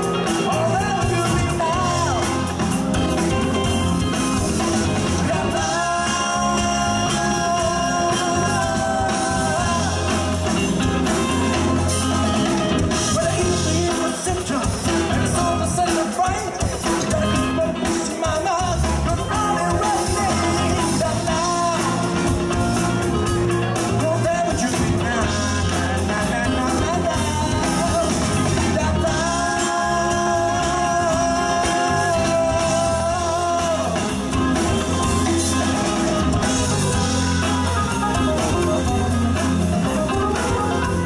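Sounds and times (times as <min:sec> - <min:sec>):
drum kit: 0:00.0 - 0:41.0
electric bass: 0:00.0 - 0:41.0
man singing lead: 0:00.0 - 0:41.0.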